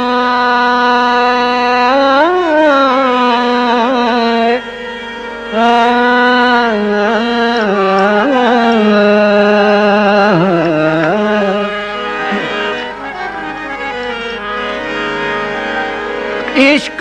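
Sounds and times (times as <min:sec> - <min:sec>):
man singing long wordless notes: 0:00.0 - 0:14.4
harmonium: 0:00.0 - 0:17.0.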